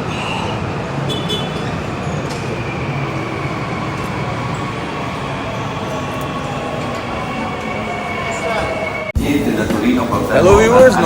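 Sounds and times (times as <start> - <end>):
high-speed train rumble: 0.0 - 11.0.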